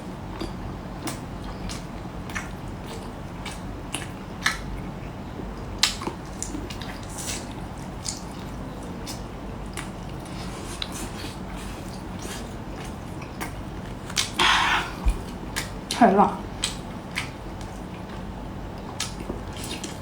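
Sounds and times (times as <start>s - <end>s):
wet chewing smacks: 0.4s - 5.0s, 5.6s - 20.0s.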